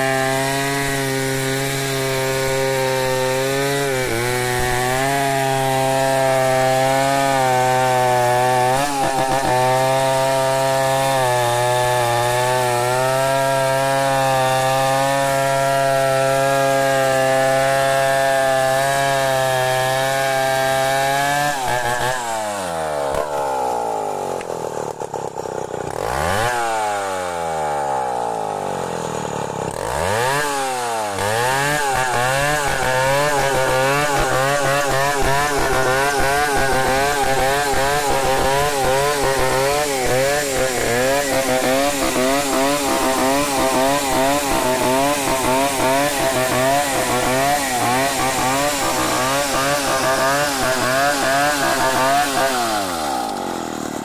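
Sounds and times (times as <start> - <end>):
chainsaw ripping a log: 0.0 - 54.0.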